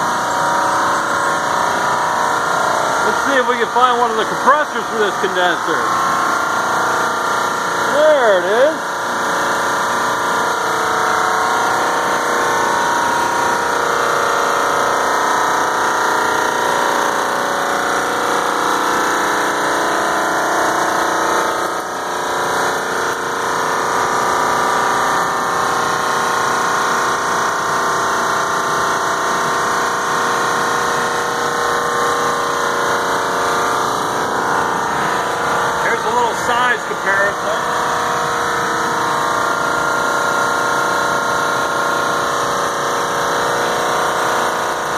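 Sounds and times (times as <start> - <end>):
air conditioning mechanical drone: 0.0 - 44.9.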